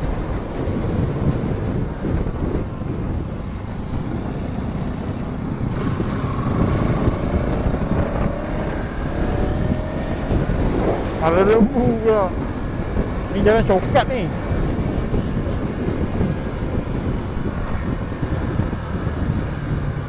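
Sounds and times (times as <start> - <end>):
vehicle engine and road noise: 0.0 - 20.0
wind buffeting microphone: 0.0 - 20.0.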